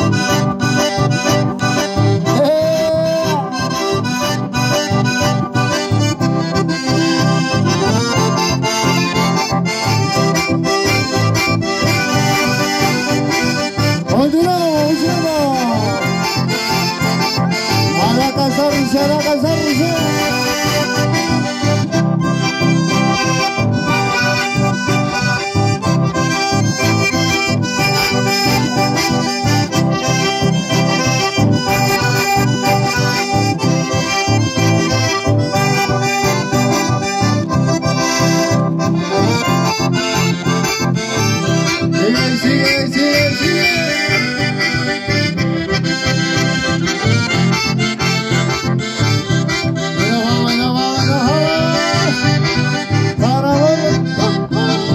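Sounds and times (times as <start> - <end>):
accordions playing melody: 0.0 - 54.9.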